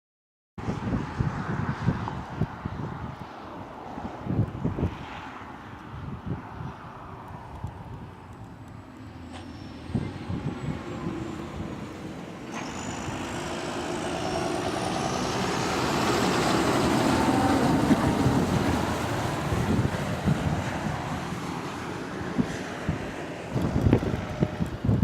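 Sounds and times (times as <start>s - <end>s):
passing vehicle engine rushing: 0.6s - 25.0s.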